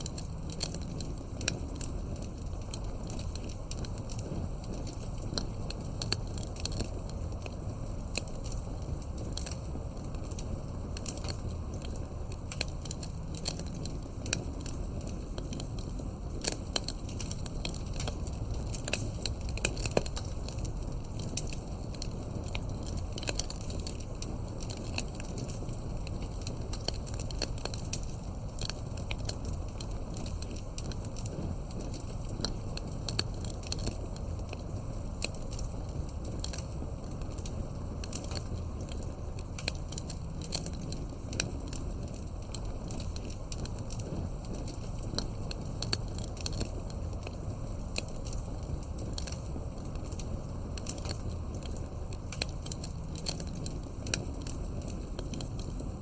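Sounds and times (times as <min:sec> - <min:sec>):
campfire crackling and popping: 0:00.0 - 0:56.0
flames low rumble: 0:00.0 - 0:56.0.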